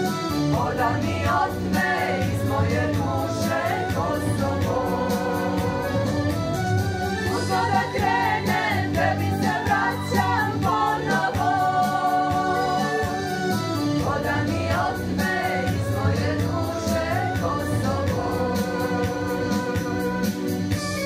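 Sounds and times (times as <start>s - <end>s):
women's choir singing in parts: 0.0s - 20.3s
low accompaniment with steady beat: 0.0s - 21.0s.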